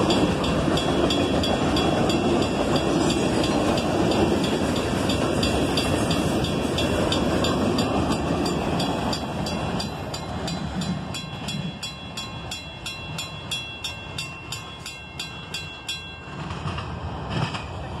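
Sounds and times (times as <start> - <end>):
railroad crossing bell dinging: 0.0 - 17.9
freight train wheels rumbling: 0.0 - 18.0.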